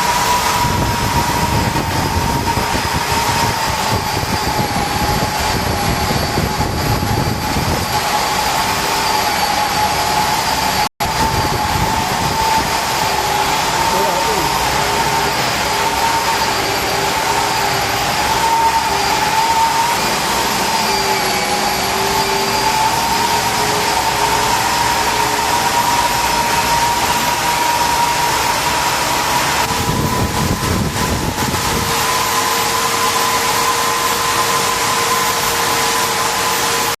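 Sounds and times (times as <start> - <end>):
lathe whining: 0.0 - 37.0
lower machine whine: 0.0 - 37.0.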